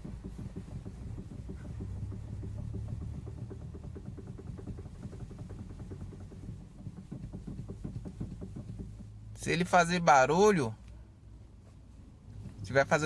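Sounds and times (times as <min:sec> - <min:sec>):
steering rack knocking: 0:00.0 - 0:10.8
steady low hum: 0:00.0 - 0:13.0.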